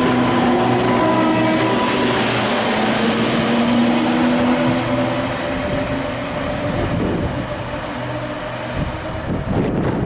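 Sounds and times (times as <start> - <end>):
train engine hum: 0.0 - 10.0.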